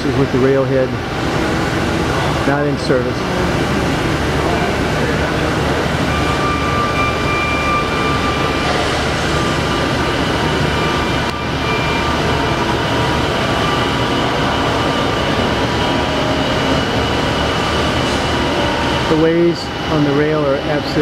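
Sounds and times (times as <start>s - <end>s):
faint high whines: 0.0s - 21.0s
heavy machinery humming: 0.0s - 21.0s.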